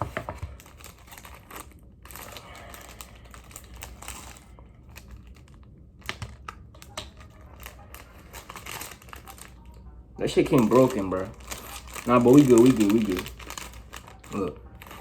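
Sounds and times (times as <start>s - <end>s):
snack packet crinkling: 0.0s - 15.0s.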